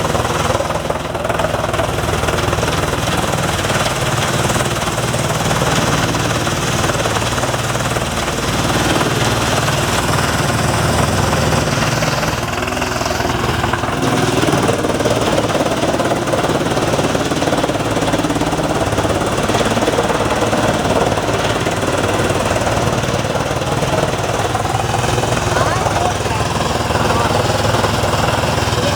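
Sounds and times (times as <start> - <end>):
wood chipper running: 0.0 - 28.9.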